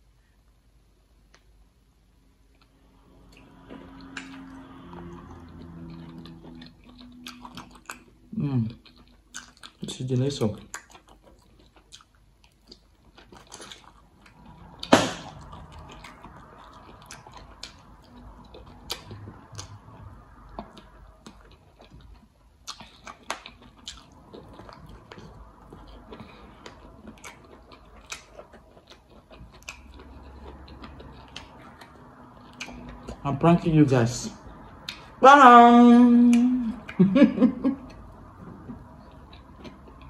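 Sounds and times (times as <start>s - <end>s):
person chewing with wet mouth smacks: 2.5s - 33.2s, 34.6s - 35.2s, 37.8s - 40.0s.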